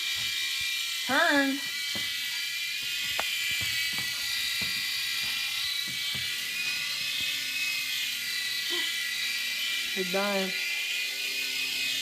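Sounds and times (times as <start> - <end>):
toy helicopter whine: 0.0 - 12.0.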